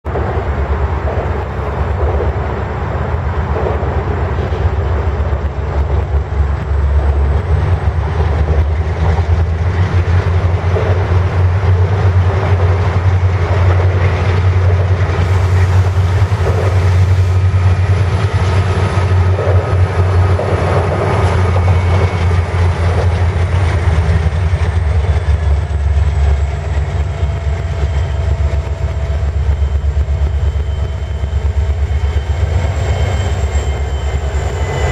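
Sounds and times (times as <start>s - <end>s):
train wheel and rail noise: 0.0s - 34.9s.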